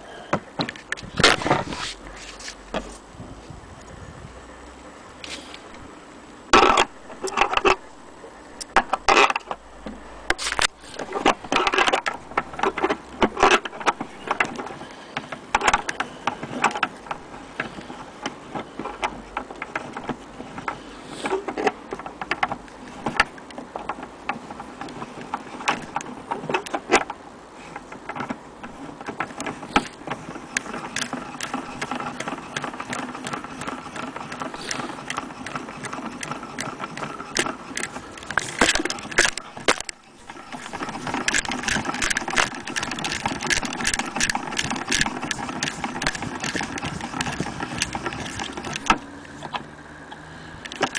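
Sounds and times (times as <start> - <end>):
mechanical whirr: 0.7 - 50.9
gramophone parts clicking and rattling: 6.5 - 7.8, 8.6 - 50.9.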